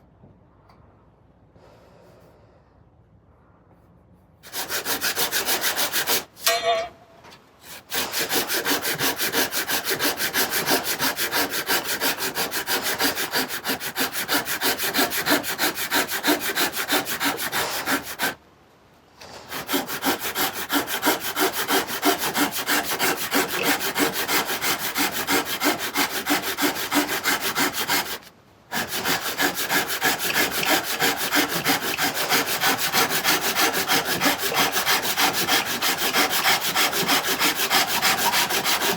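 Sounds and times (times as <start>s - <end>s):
hand tool rubbing on wood: 4.4s - 6.3s, 7.6s - 18.4s, 19.4s - 38.9s.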